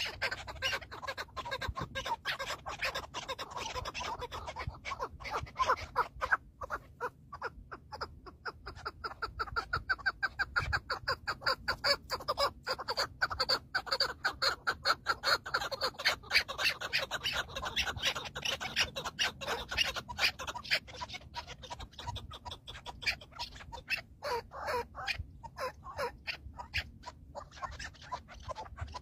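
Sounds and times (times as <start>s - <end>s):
partridges calling: 0.0s - 29.0s.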